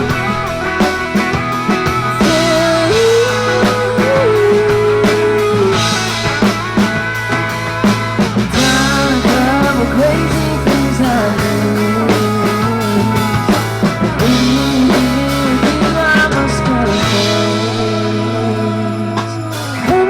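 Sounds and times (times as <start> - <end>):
drum hits: 0.0 - 18.1
country rock band playing: 0.0 - 20.0
melodic lead guitar line: 0.0 - 20.0
steady bass: 0.0 - 20.0.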